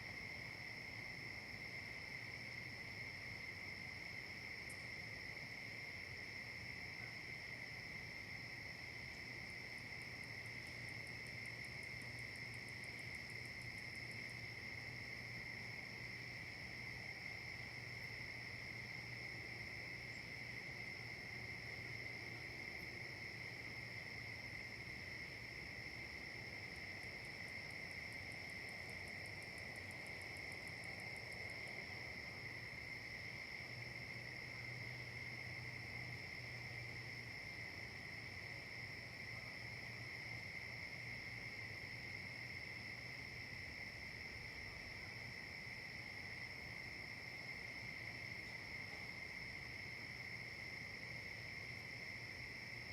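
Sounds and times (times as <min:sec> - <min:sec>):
crickets and insects trilling: 0:00.0 - 0:52.9.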